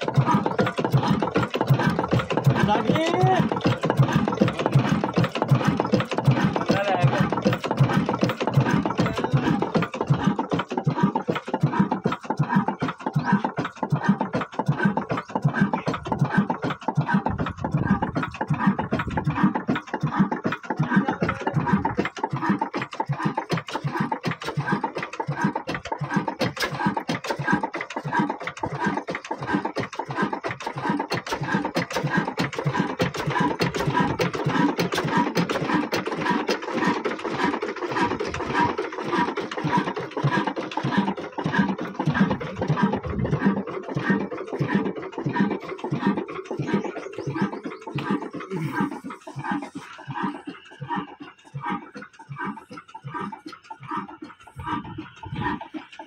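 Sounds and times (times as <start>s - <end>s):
diesel engine knocking: 0.0s - 56.0s.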